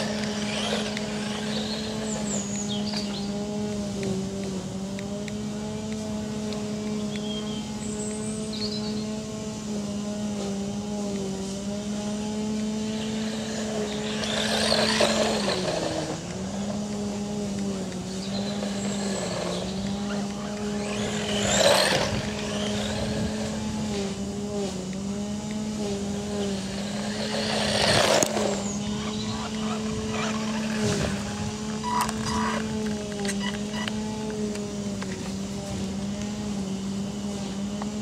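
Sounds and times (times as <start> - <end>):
steady low hum: 0.0 - 38.0
toy car motor whine: 0.0 - 38.0
tyres on dirt: 0.0 - 38.0.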